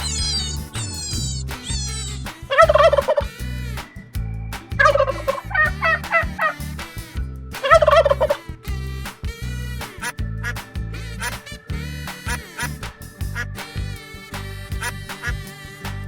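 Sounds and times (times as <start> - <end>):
backing track with steady beat: 0.0 - 16.0.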